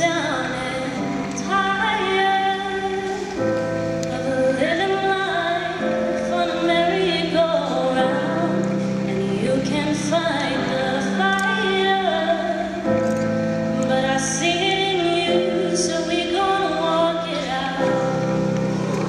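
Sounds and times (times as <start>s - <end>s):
slow music with singing: 0.0s - 19.0s.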